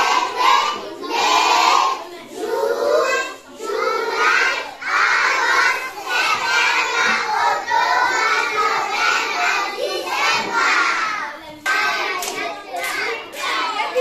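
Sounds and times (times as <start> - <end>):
children singing in unison: 0.0 - 14.0.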